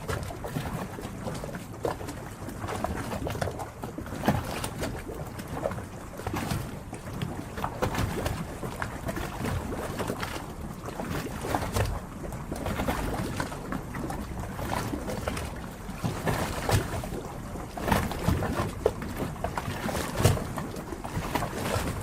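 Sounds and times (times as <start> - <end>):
water lapping and splashing: 0.0 - 22.0.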